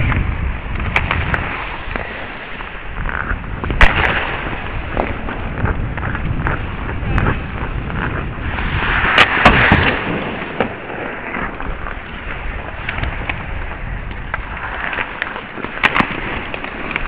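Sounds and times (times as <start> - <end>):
skates scraping ice: 0.0 - 17.0
hockey sticks and puck clacking: 0.8 - 17.0.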